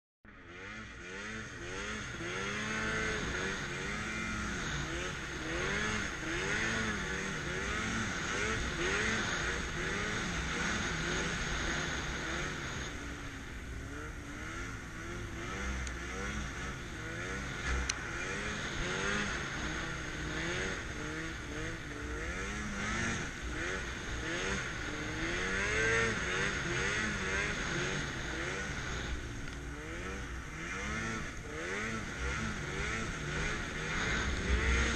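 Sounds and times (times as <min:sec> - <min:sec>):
snowmobile engine revving: 0:00.3 - 0:34.9.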